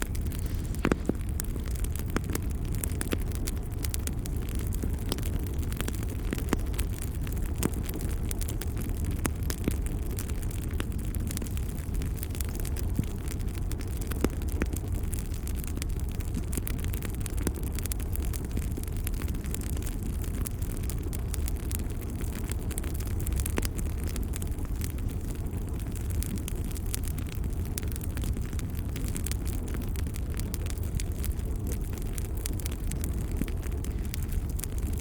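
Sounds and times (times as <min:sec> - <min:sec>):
log fire crackling: 0:00.0 - 0:35.0.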